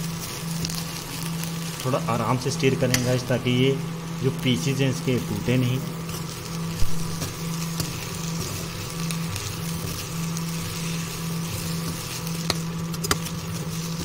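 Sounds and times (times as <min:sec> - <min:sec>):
induction cooktop hum: 0:00.0 - 0:14.0
okra sizzling in pan: 0:00.0 - 0:14.0.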